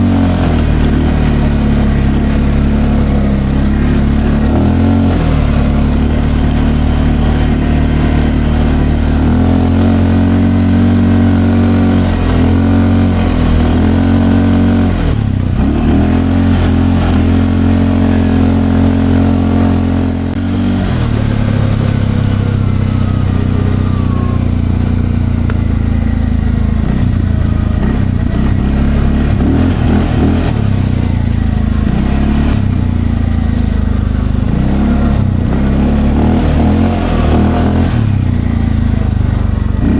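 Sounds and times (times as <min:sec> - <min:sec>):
atv engine running under load: 0:00.0 - 0:39.9.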